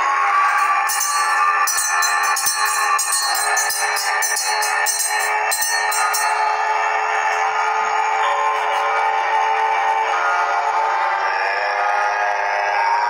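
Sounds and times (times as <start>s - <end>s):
droning music with held tones: 0.0s - 13.0s.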